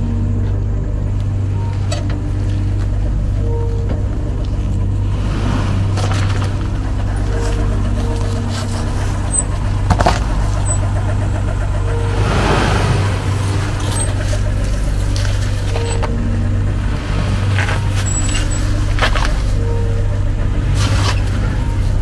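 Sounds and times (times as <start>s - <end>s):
jeep engine running: 0.0s - 22.0s.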